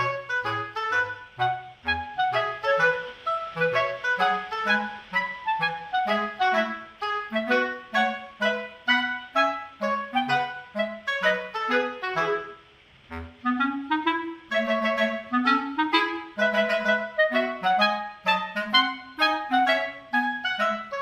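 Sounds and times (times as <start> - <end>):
bouncy music tune: 0.0 - 21.0.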